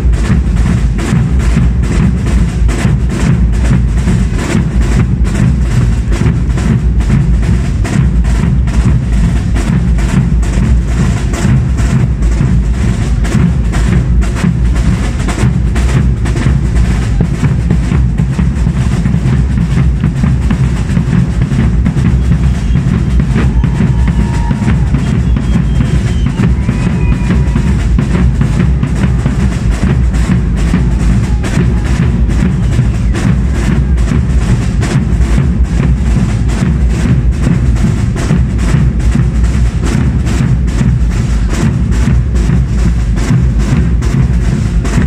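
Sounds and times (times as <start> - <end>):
bass drums: 0.0 - 45.0
snare drums: 0.0 - 45.0.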